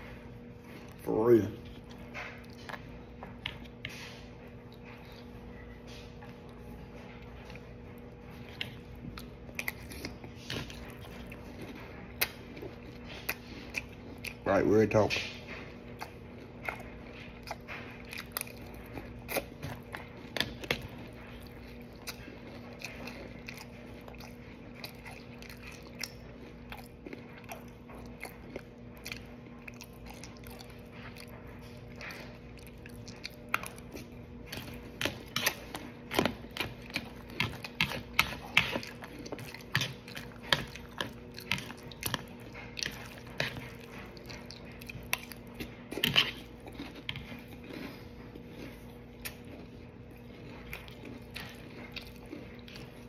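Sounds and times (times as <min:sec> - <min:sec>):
chewing crunchy cereal: 0:00.0 - 0:53.0.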